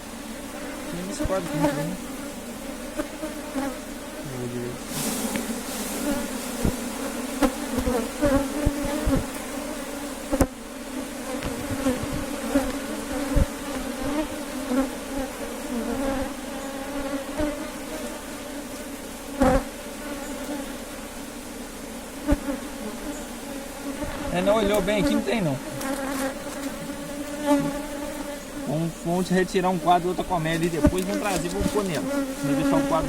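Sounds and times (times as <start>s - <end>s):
honey bees buzzing: 0.0s - 33.0s.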